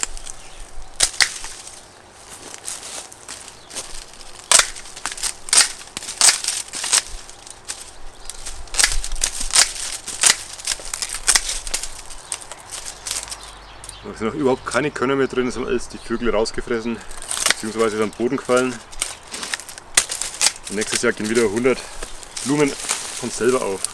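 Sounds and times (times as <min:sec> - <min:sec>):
dry stalks cracking and snapping: 0:00.0 - 0:14.0, 0:17.0 - 0:23.9.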